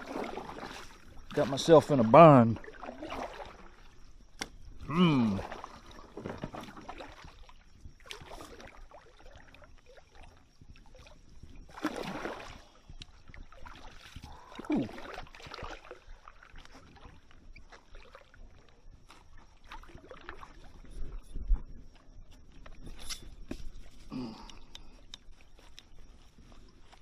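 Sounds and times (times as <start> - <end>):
paddle splashing water: 0.0 - 24.1.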